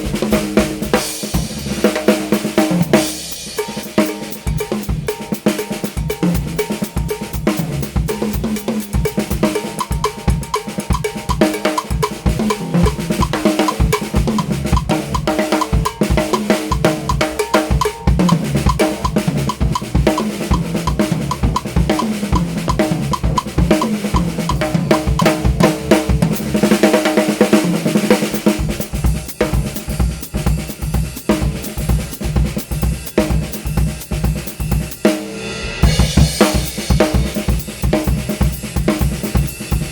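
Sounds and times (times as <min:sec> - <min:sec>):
bass drum: 0:00.0 - 0:03.8, 0:06.0 - 0:35.0, 0:35.6 - 0:39.9
cymbals: 0:00.0 - 0:39.9
drum kit groove: 0:00.0 - 0:39.9.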